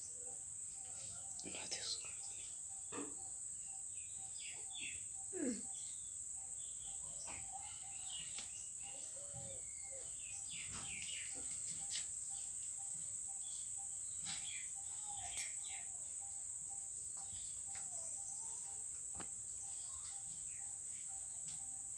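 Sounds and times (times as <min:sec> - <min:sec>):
bird chirps: 0:00.0 - 0:21.8.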